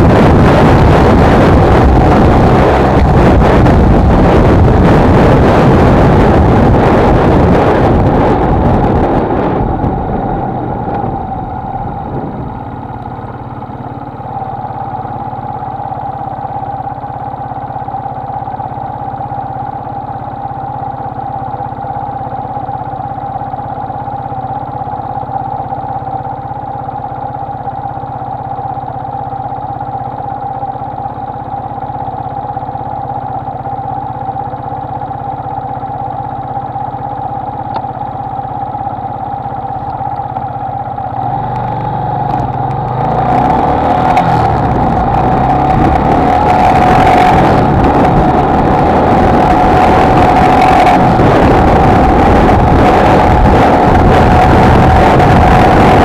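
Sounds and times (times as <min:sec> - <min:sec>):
motorcycle engine idling: 0:00.0 - 0:56.0
wind and riding noise: 0:00.0 - 0:56.0.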